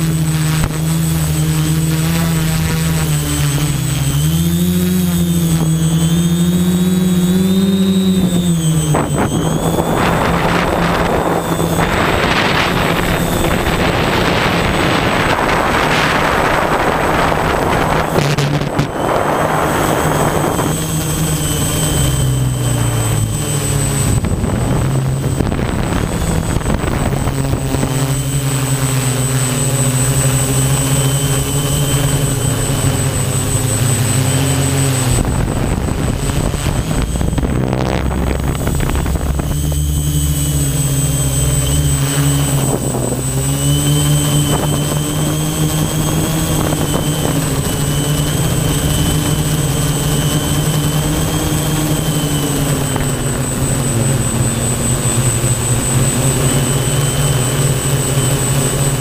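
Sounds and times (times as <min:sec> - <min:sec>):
drone propellers buzzing: 0:00.0 - 0:59.0
wind on microphone: 0:00.0 - 0:59.0.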